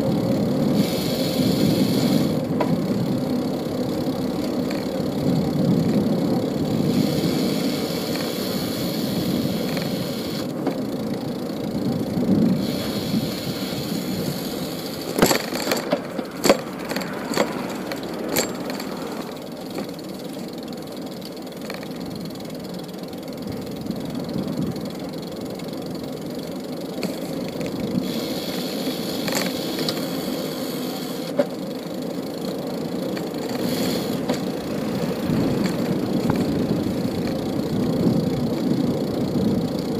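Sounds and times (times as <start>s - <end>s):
city street traffic: 0.0s - 39.9s.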